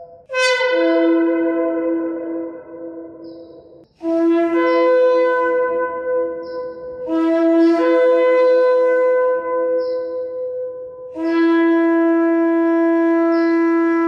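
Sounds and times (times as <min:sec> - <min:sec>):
shofar blasts: 0:00.0 - 0:09.8, 0:11.1 - 0:14.0.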